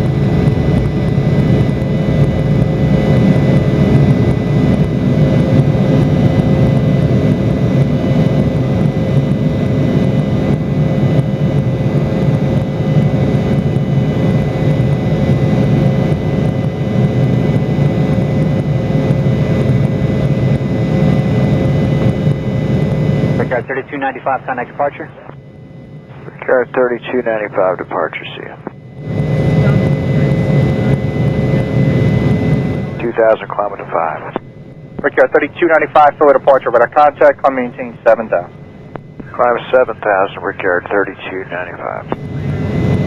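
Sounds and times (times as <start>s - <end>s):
jet engines rumbling and whining: 0.0s - 43.0s.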